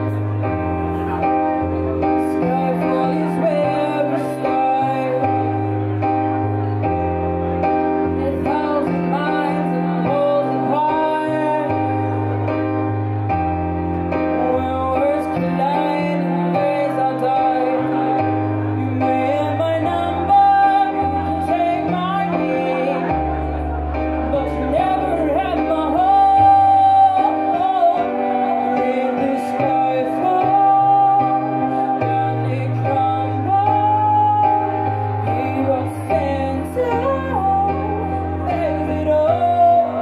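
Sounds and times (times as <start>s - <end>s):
woman singing: 0.0s - 6.0s, 8.0s - 12.5s, 14.2s - 40.0s
keyboard accompaniment: 0.0s - 40.0s.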